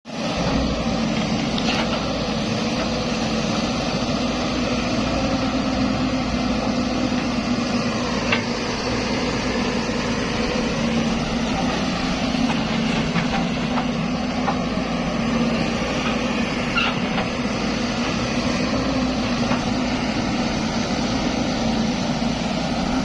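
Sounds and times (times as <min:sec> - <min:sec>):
excavator diesel engine running: 0:00.1 - 0:23.0.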